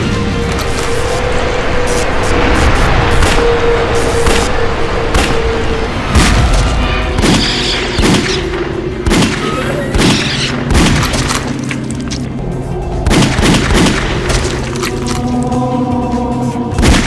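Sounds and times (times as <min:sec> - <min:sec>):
action game music: 0:00.0 - 0:17.0.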